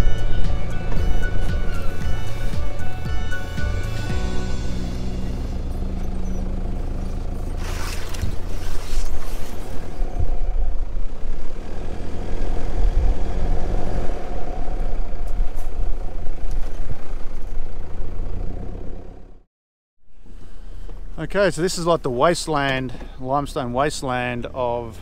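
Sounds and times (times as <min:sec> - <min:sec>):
vehicle engine running: 0:00.0 - 0:19.5, 0:20.1 - 0:25.0.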